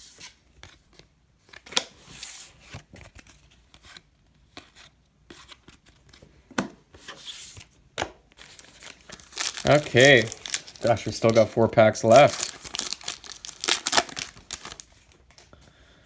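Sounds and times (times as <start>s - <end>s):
cards sliding and rustling: 0.0s - 15.5s.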